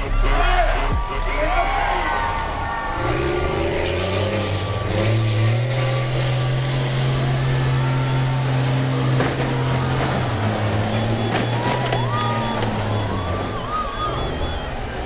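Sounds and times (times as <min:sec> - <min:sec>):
bus engines running: 0:00.0 - 0:15.0
engine revving: 0:00.0 - 0:15.0.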